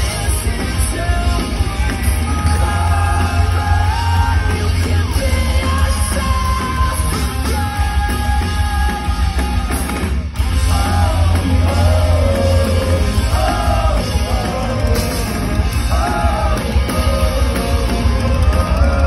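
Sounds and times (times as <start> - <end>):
person singing lead vocal: 0.0 - 19.0
rock band playing live: 0.0 - 19.0.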